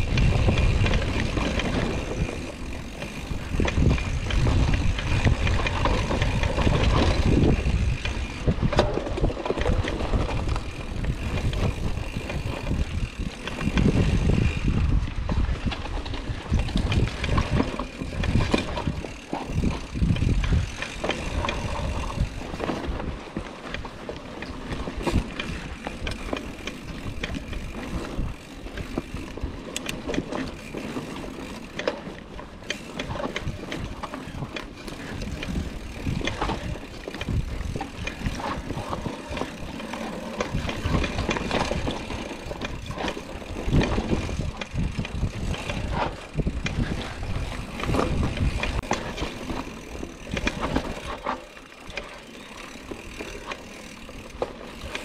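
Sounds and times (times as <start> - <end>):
bike rattling and clicking: 0.0 - 55.0
bike tyre rumble on dirt: 0.0 - 55.0
wind buffeting microphone: 0.0 - 55.0.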